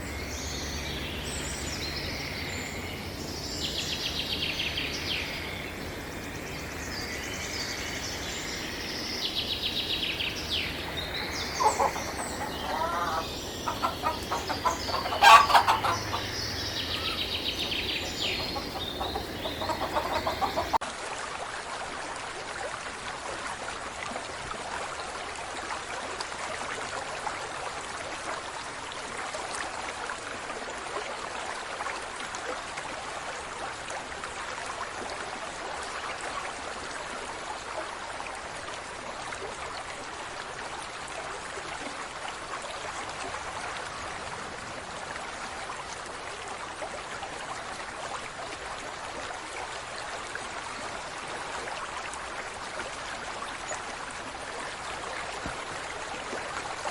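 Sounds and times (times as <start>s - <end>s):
running water: 0.0s - 56.9s.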